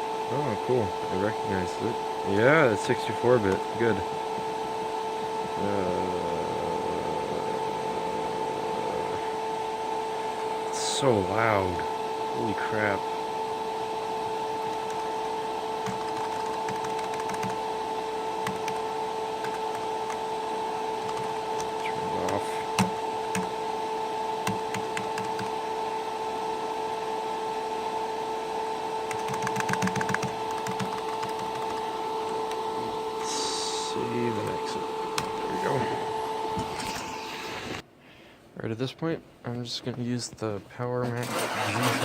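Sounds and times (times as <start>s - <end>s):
computer cooling fans humming: 0.0s - 42.0s.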